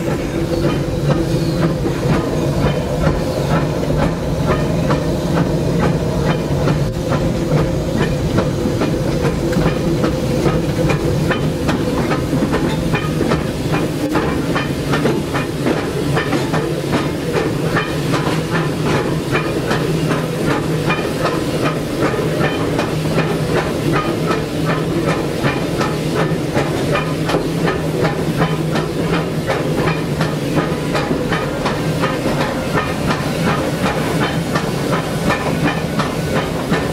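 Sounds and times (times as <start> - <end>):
locomotive clatter: 0.0 - 36.9
steam hissing: 0.0 - 36.9.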